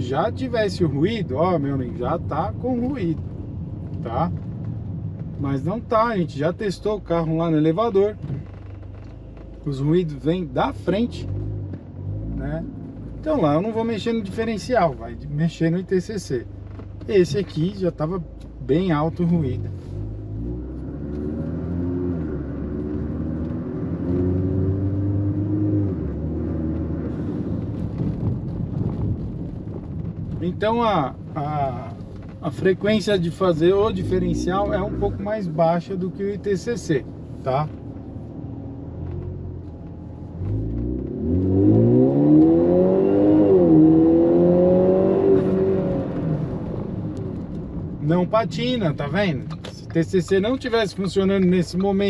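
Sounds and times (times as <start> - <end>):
car engine running: 0.0 - 52.0
road rumble: 0.0 - 52.0.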